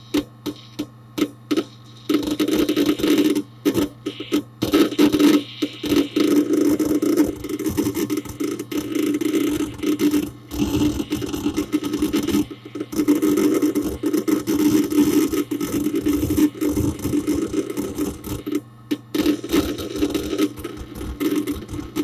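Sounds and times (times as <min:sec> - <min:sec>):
hard disk seek clicks: 0:00.0 - 0:22.0
steady low hum: 0:00.0 - 0:22.0.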